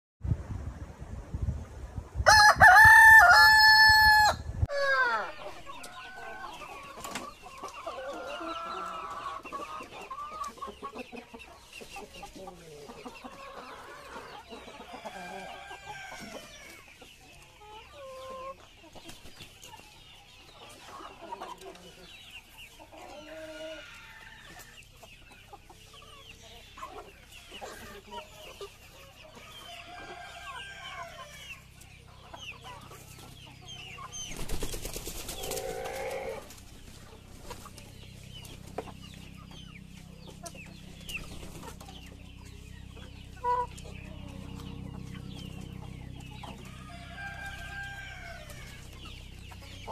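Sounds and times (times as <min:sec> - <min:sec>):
hens clucking: 0:02.3 - 0:49.9.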